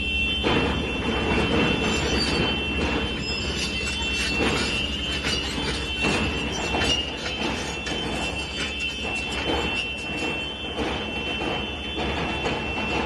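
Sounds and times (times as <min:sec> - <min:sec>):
heavy machine engine rumble: 0:00.0 - 0:13.0
high metallic squeal: 0:00.0 - 0:13.0.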